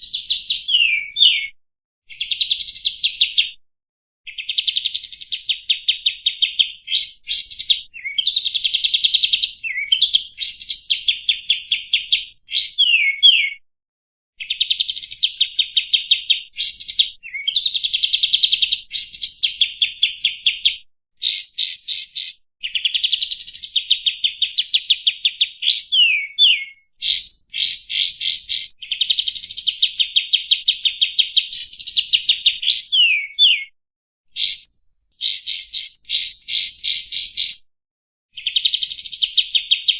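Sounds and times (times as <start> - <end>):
bulbul singing trills and whistles: 0.0 - 3.6, 4.3 - 13.6, 14.4 - 37.6, 38.3 - 39.9.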